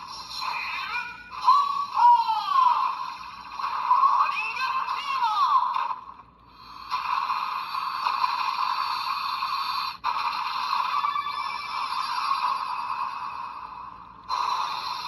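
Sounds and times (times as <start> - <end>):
synthesized toy sound effects: 0.0 - 15.0.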